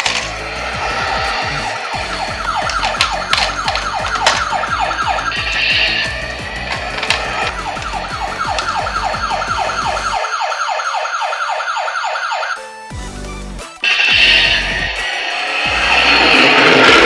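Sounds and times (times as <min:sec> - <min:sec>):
toy ambulance siren wailing: 0:00.0 - 0:13.0, 0:13.6 - 0:17.0.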